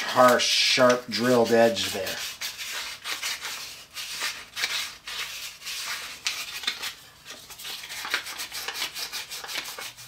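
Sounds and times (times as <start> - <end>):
hand sanding wood: 1.2 - 10.0.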